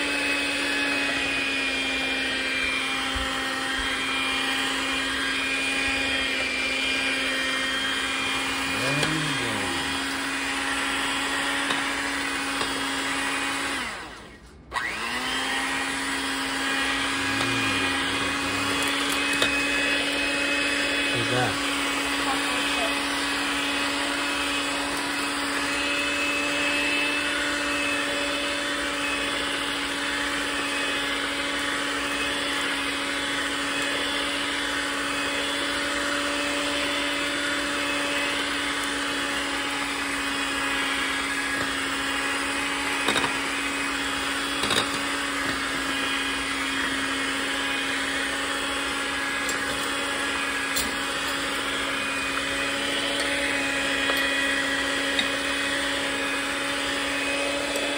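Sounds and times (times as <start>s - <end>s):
electric hand mixer whirring: 0.0s - 57.9s.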